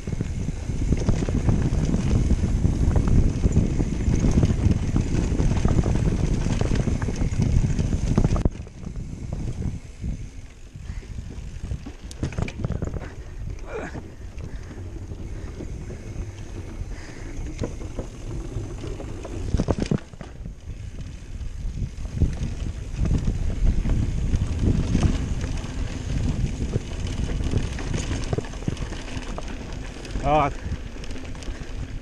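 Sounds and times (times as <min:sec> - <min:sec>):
bike rattling and clicking: 0:00.0 - 0:32.0
bike tyres rumbling over planks: 0:00.0 - 0:32.0
wind buffeting microphone: 0:00.0 - 0:32.0.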